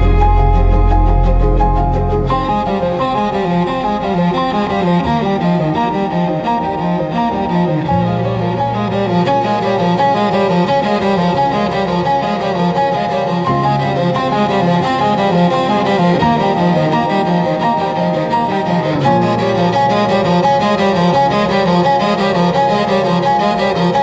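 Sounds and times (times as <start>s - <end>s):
slow cello music: 0.0s - 24.0s.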